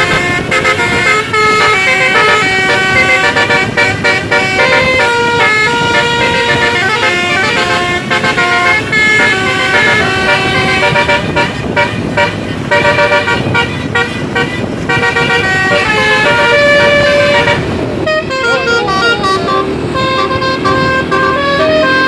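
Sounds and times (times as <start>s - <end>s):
constant noisy rush: 0.0s - 22.0s
multi-tone bus horns melody: 0.0s - 22.0s.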